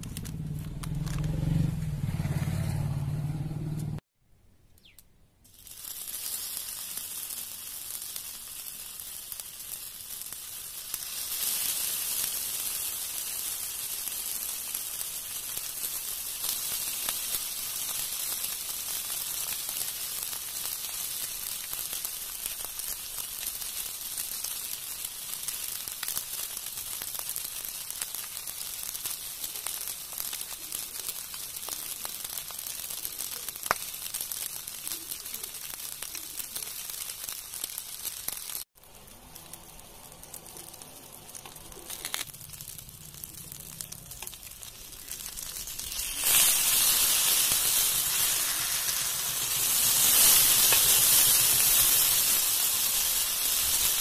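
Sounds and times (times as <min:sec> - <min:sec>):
oil crackles and pops: 0:00.0 - 0:01.6, 0:04.8 - 0:54.0
fish sizzling in hot oil: 0:05.5 - 0:54.0.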